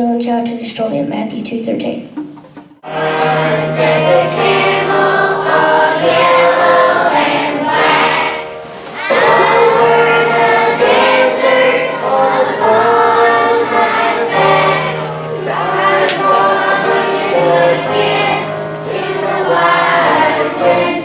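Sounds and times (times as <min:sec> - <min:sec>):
children's choir singing: 0:02.8 - 0:21.0.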